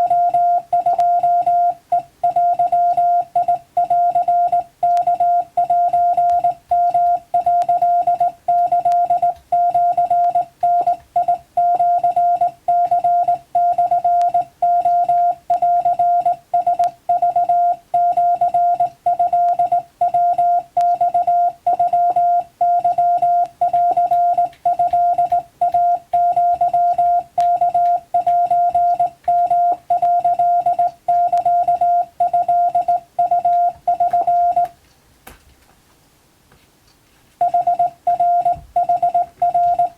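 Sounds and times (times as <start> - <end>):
morse code tone: 0.0 - 34.7, 37.4 - 39.9.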